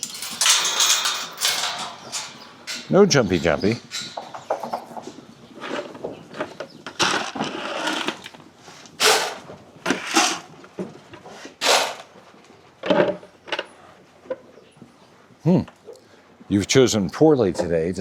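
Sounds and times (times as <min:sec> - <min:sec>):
rustling crunching noises: 0:00.0 - 0:15.4.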